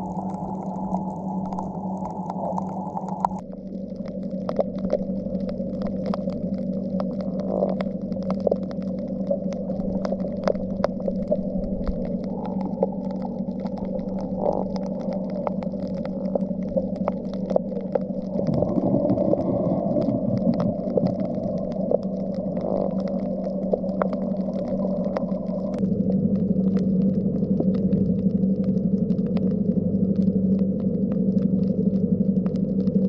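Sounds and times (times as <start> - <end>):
low wavering rumble: 0.0 - 33.0
steady low underwater hum: 0.0 - 33.0
wash of noise: 0.0 - 33.0.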